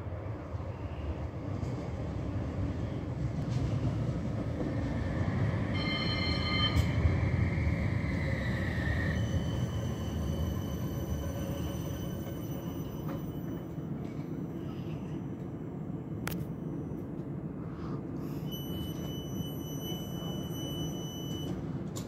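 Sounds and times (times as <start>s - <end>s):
tram low rumble: 0.0s - 22.0s.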